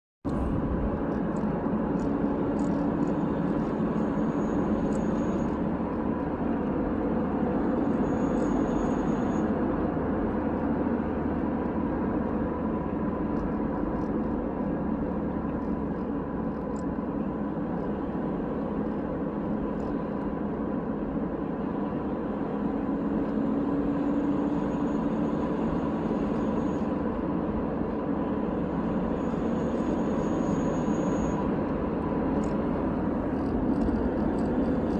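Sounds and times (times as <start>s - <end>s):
road noise: 0.2s - 34.9s
mechanical whine: 0.3s - 34.9s.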